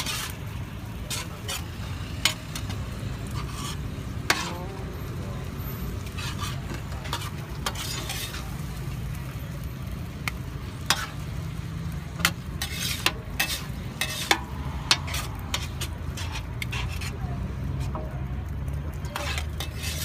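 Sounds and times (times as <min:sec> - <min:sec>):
utensils clinking and scraping pan: 0:00.0 - 0:09.6, 0:10.2 - 0:18.1, 0:18.9 - 0:20.0
frying hiss: 0:00.0 - 0:20.0.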